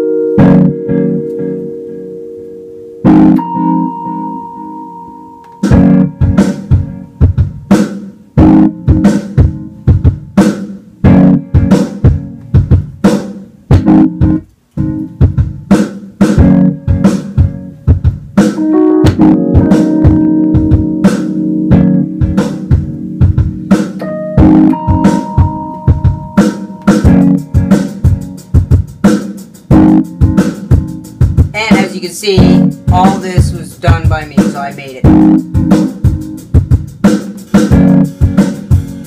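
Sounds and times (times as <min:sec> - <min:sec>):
jazz on electronic keyboards: 0:00.0 - 0:39.0
steady drum beat: 0:05.6 - 0:39.0.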